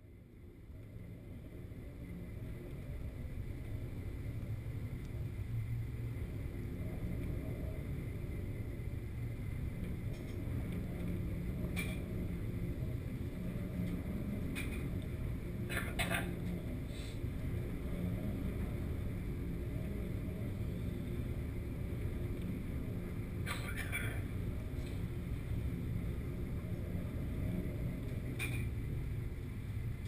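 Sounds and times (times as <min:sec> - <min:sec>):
ship engine low drone: 0:00.0 - 0:30.0.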